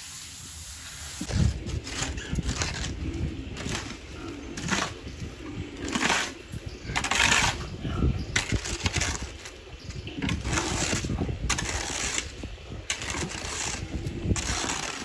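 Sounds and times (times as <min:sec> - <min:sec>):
shovel scraping concrete mix: 0:01.2 - 0:15.0.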